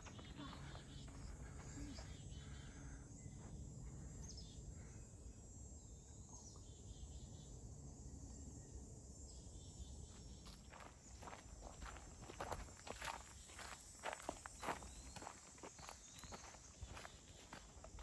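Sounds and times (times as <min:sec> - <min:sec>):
faint bird chirps: 0:00.0 - 0:07.6, 0:08.2 - 0:18.0.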